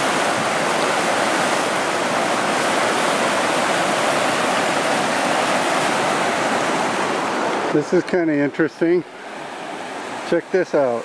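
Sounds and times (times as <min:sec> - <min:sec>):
river rushing over rapids: 0:00.0 - 0:11.0.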